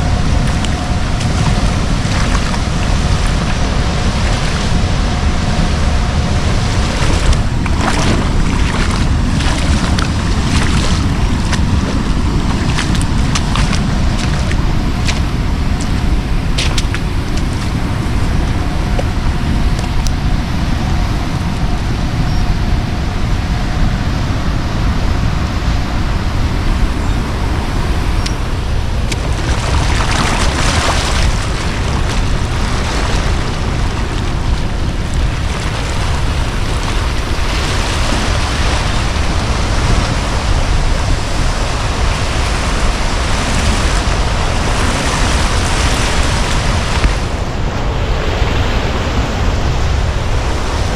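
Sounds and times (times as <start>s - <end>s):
floodwater rushing: 0.0s - 21.9s, 26.0s - 50.9s
wind rumbling on microphone: 0.0s - 50.9s.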